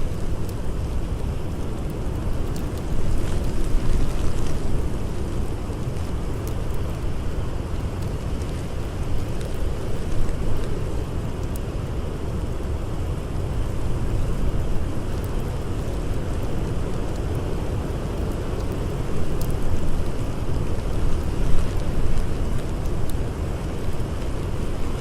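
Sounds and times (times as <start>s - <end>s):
faint campfire crackles: 0.0s - 25.0s
low rumbling blizzard wind: 0.0s - 25.0s.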